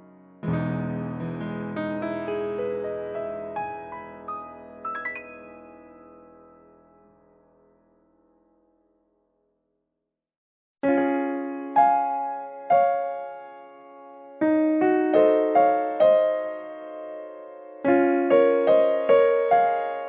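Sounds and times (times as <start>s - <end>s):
gentle piano melody: 0.0s - 8.8s, 10.8s - 20.0s.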